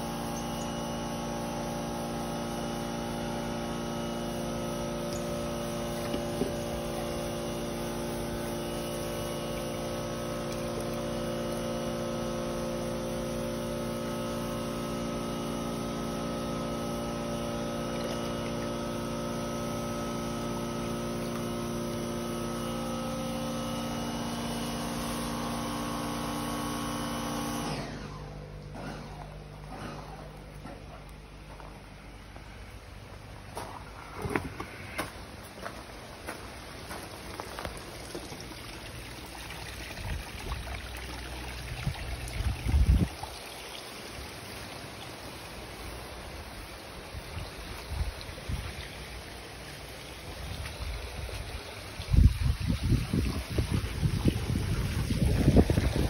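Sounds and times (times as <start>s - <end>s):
electric motor hum: 0.0s - 56.0s.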